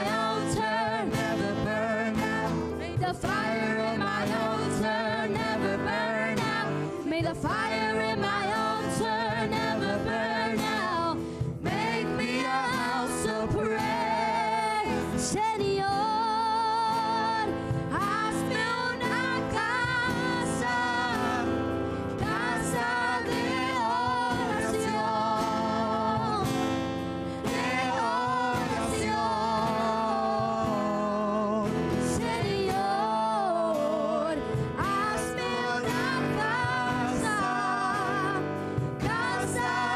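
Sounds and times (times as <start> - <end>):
guitar accompaniment: 0.0 - 39.9
person singing with vibrato: 0.0 - 39.9.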